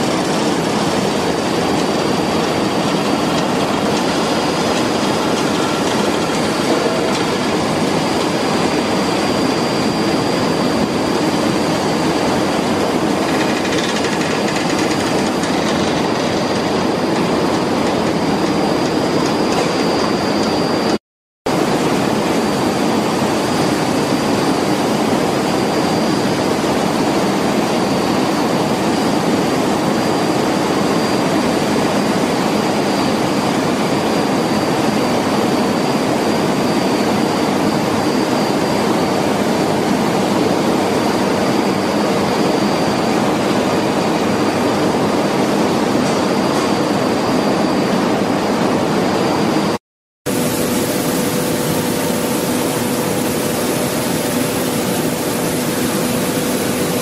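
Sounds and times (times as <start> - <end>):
loud machinery and air noise: 0.0 - 57.0
thin high whine: 0.0 - 57.0.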